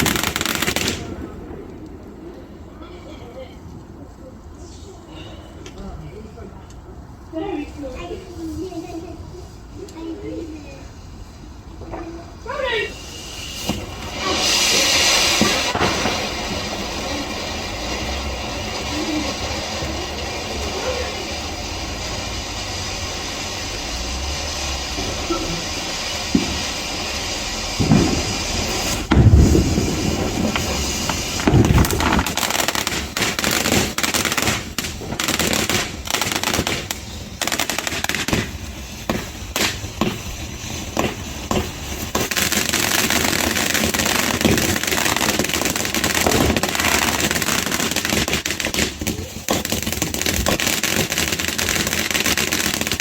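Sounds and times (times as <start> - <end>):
firework bangs: 0.0 - 3.9, 10.9 - 53.0
firework fountain hissing: 0.0 - 53.0.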